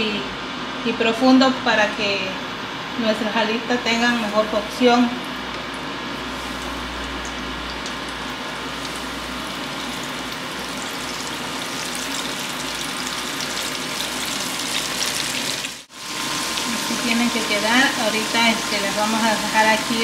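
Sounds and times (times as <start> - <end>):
chicken deep-frying in oil: 4.0 - 20.0.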